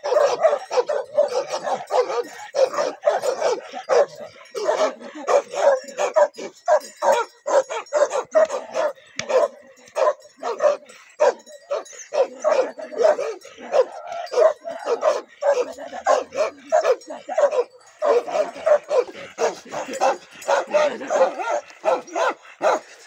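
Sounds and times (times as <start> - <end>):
dogs barking rapidly: 0.0 - 23.0.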